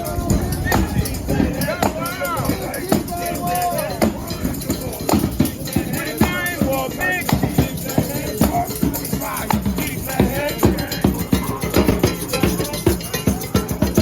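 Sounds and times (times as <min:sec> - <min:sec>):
hand percussion and drums: 0:00.0 - 0:14.0
voices chanting and singing: 0:00.0 - 0:14.0.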